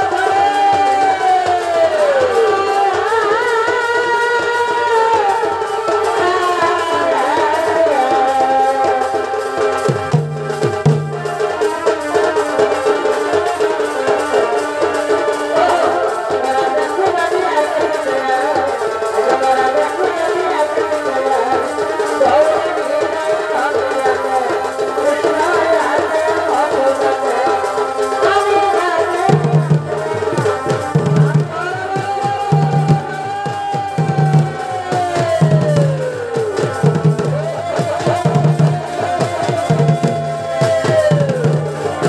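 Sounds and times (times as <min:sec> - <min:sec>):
fast folk drumming: 0:00.0 - 0:42.0.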